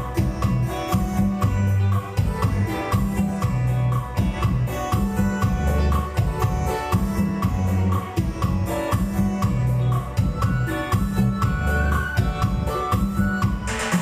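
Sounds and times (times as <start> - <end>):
instrumental backing track: 0.0 - 14.0.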